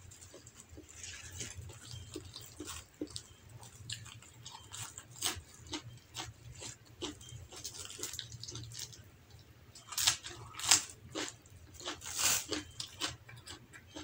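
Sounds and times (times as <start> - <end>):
wet chewing and crunching: 0.0 - 14.0.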